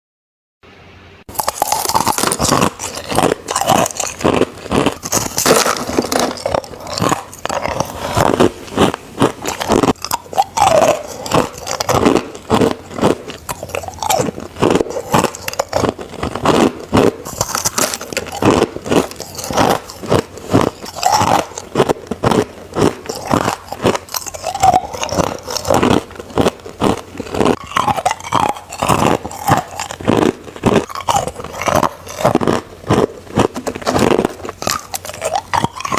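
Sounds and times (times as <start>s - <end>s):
ice being chewed: 1.3s - 35.9s.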